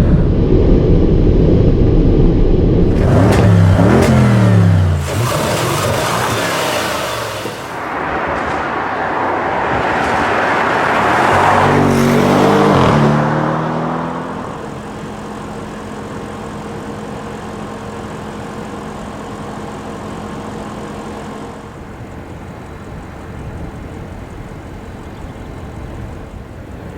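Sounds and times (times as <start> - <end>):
car engine accelerating hard: 2.8 - 26.8.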